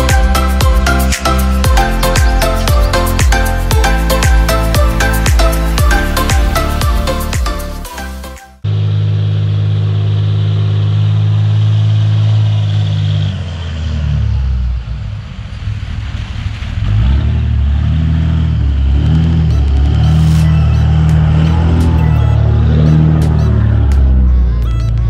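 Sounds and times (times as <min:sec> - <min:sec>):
heavy equipment diesel engine: 0:00.0 - 0:25.0.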